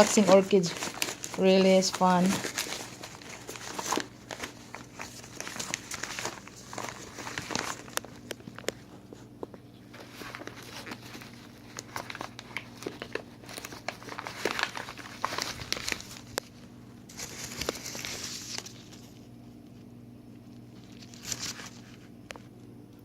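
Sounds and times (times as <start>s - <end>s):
packaging crinkling and rustling: 0.0s - 22.6s.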